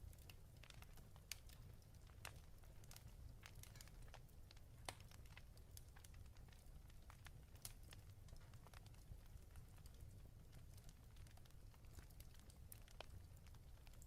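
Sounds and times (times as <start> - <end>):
faint fireplace crackling: 0.0 - 14.0.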